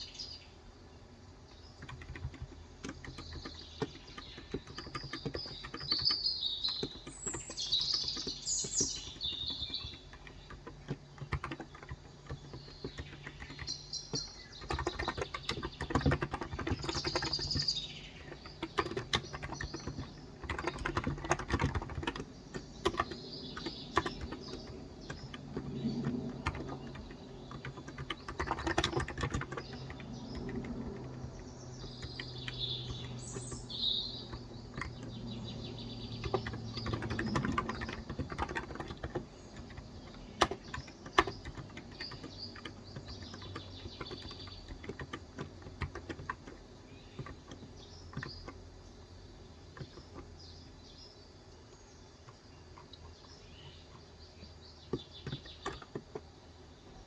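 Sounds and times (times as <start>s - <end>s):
birds chirping: 0.0s - 57.0s
typing on keyboard: 1.5s - 50.8s, 53.9s - 56.9s.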